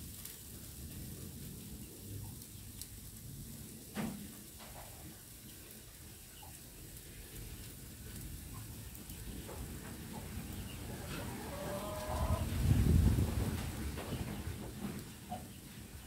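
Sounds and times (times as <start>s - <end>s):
vegetables sizzling in a wok: 0.0s - 13.1s
wood fire crackles: 0.0s - 16.0s.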